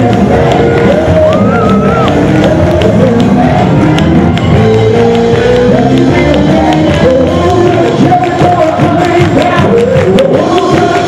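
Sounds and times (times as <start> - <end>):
drums: 0.0 - 11.0
gospel band playing: 0.0 - 11.0
people singing: 0.0 - 11.0.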